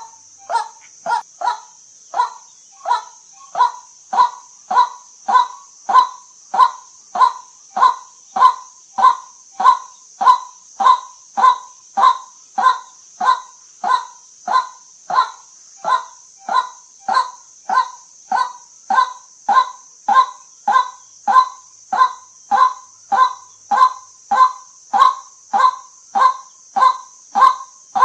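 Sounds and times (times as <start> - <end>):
steady high hiss: 0.0 - 28.0
waterhen kwak calls: 0.0 - 28.0.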